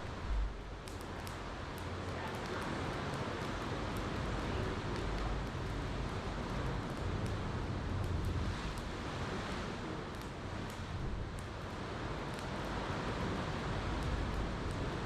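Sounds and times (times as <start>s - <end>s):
campfire crackling: 0.0s - 15.0s
ocean waves washing on shore: 0.0s - 15.0s
wind rumble on microphone: 0.0s - 15.0s.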